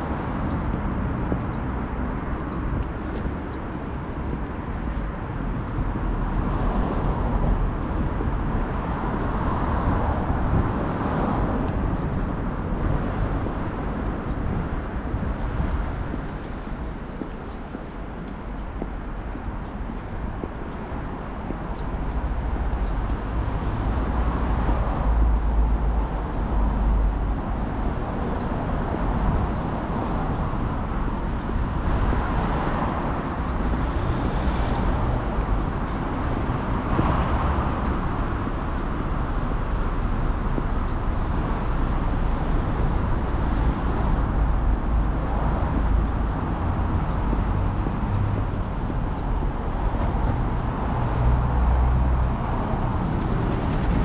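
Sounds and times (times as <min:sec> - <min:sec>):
city traffic rumble: 0:00.0 - 0:54.0
vehicles passing: 0:00.0 - 0:54.0.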